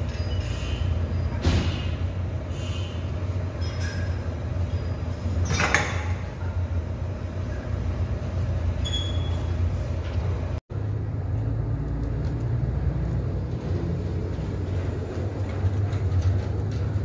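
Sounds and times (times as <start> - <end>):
gym room hum: 0.0 - 17.0.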